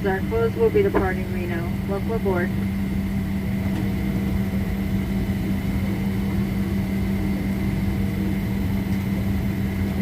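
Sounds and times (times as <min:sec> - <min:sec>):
air-conditioning ventilation drone: 0:00.0 - 0:10.0
constant low tone: 0:00.0 - 0:10.0.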